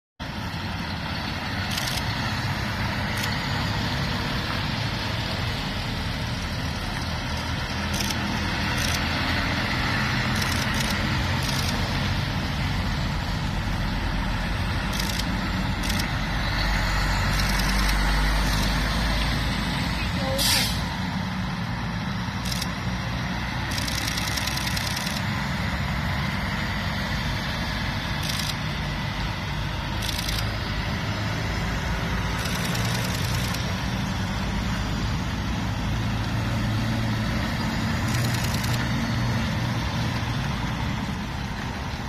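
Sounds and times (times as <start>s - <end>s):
lorry diesel engines rumbling: 0.2s - 42.0s.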